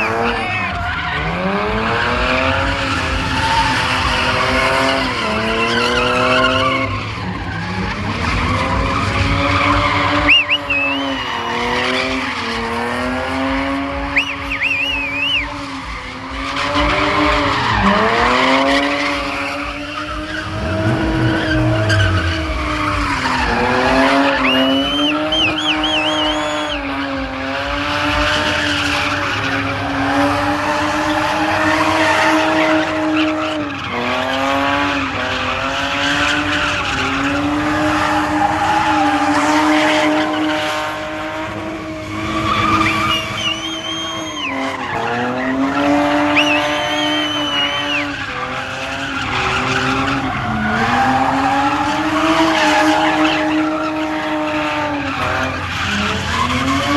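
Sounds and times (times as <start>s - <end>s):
car engine revving: 0.0s - 56.9s
tyres squealing: 0.0s - 56.9s.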